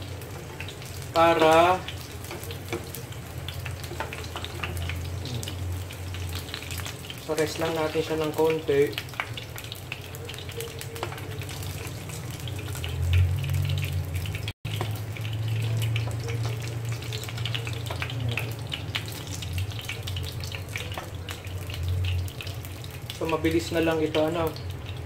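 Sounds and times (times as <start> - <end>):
oil sizzling and popping: 0.0 - 25.0.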